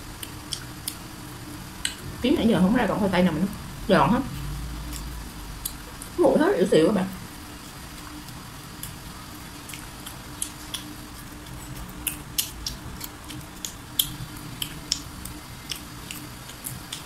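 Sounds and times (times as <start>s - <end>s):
chewing crispy food: 0.0s - 2.2s, 4.2s - 6.2s, 7.3s - 17.0s
faint steady hum: 0.0s - 17.0s.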